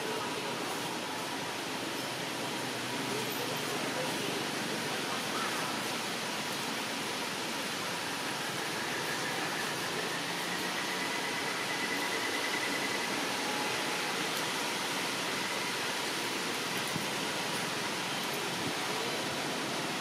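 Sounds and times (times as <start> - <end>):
forest ambience hiss: 0.0 - 20.0.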